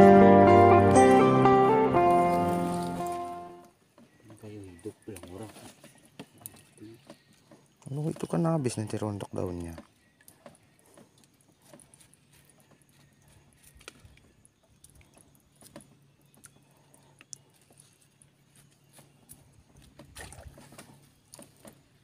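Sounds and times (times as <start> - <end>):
clicks and rustles of branches: 2.1 - 22.0.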